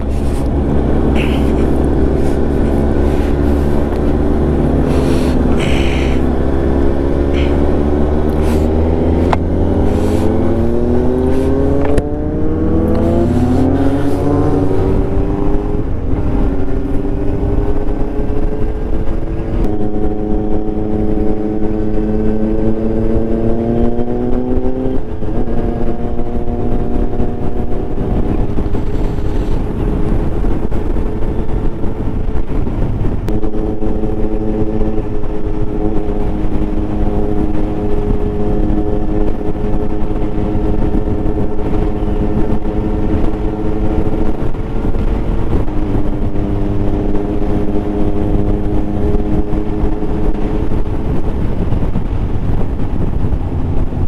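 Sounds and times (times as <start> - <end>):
motorcycle engine accelerating: 0.0 - 54.0
wind rumble on microphone: 0.0 - 54.0.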